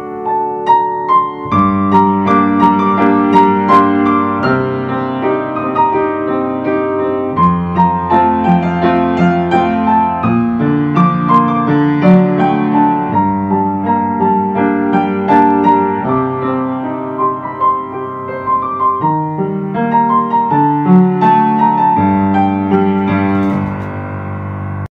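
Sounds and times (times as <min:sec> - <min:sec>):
slow piano music: 0:00.0 - 0:24.9.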